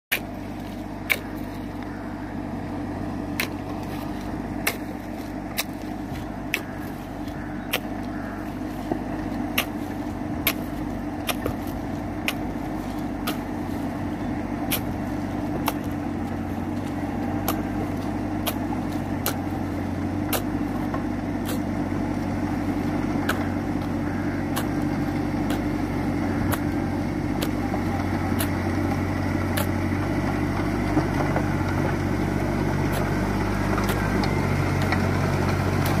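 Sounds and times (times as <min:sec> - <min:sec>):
tractor diesel engine running: 0:00.1 - 0:36.0.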